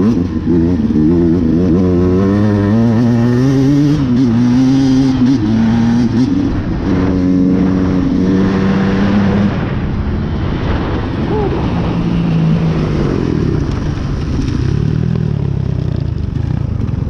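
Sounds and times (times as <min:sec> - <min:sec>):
dirt bike engine running hard: 0:00.0 - 0:17.0
rush of wind: 0:00.0 - 0:17.0.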